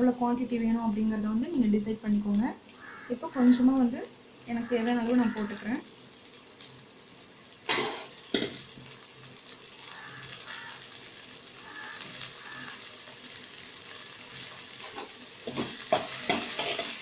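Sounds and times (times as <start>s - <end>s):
mushrooms sizzling in oil: 0.0s - 17.0s.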